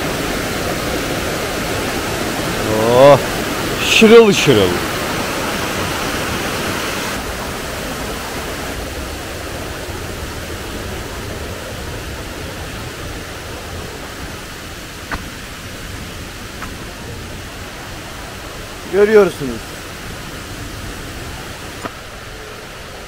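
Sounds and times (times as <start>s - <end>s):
water cascading and babbling: 0.0s - 23.0s.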